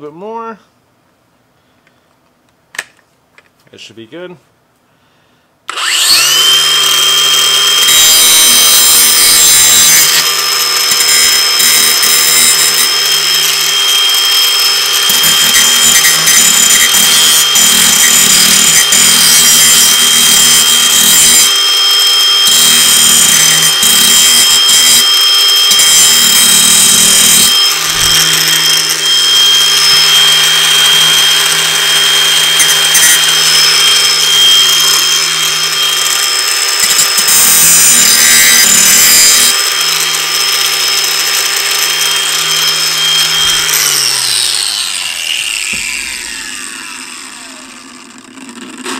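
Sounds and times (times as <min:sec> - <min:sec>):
angle grinder motor whine: 0:05.7 - 0:48.9
grinder grinding steel blade: 0:05.7 - 0:48.9.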